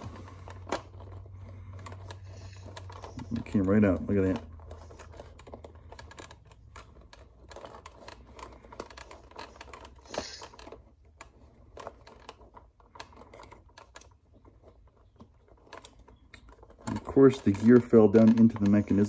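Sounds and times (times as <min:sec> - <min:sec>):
plastic clicks and rattles: 0:00.0 - 0:19.0.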